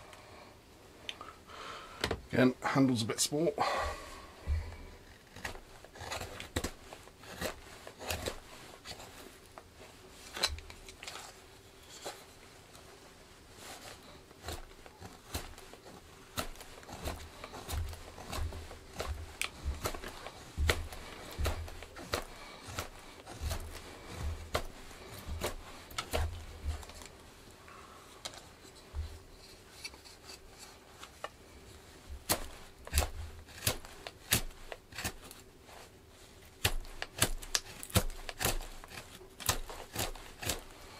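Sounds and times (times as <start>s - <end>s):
knife carving wood: 3.8s - 12.8s, 13.6s - 27.3s, 28.3s - 31.3s, 32.0s - 40.9s.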